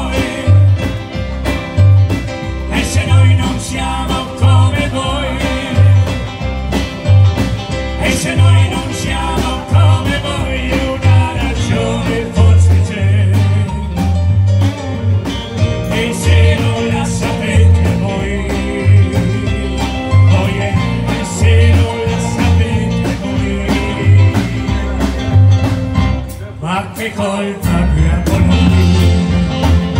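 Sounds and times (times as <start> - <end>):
man singing: 0.0 - 1.2, 2.4 - 6.6, 7.9 - 14.2, 15.8 - 25.7, 26.4 - 29.9
live band playing: 0.0 - 29.9.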